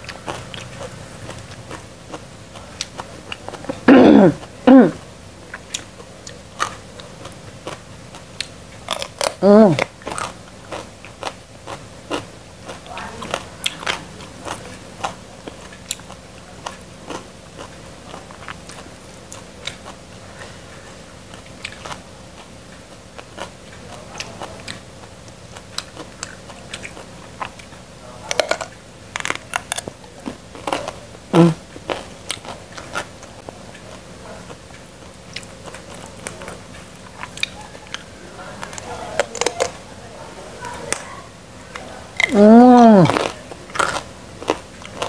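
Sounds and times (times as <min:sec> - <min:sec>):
crunching and chewing stalks: 0:00.0 - 0:45.0.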